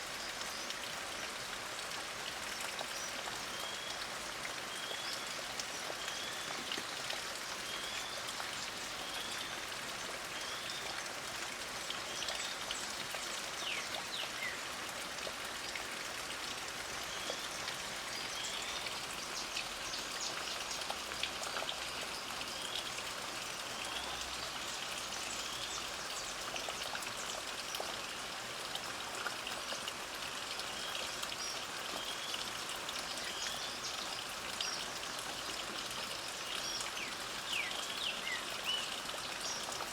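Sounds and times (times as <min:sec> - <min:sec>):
light rain falling: 0:00.0 - 0:39.9
water dripping: 0:00.0 - 0:39.9.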